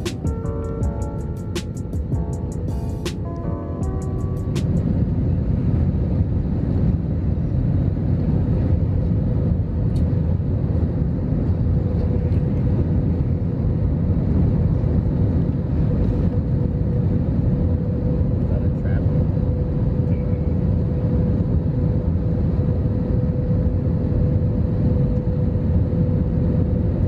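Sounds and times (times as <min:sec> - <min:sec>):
roar of engines and airflow: 0:00.0 - 0:27.0.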